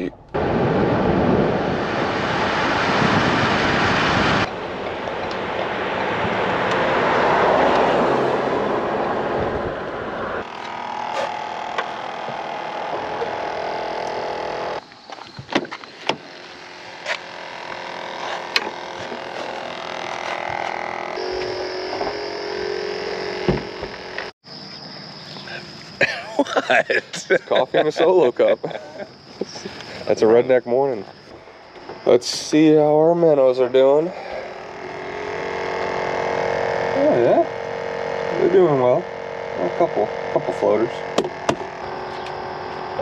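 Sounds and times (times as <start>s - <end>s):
car road and engine noise: 0.2s - 24.9s, 31.0s - 43.0s.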